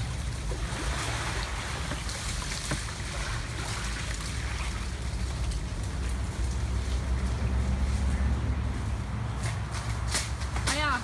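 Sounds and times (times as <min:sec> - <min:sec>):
steady rustling hiss: 0:00.0 - 0:11.0.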